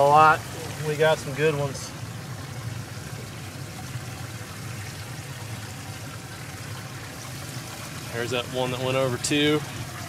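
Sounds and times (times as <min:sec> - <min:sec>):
water pouring and trickling: 0:00.0 - 0:10.0.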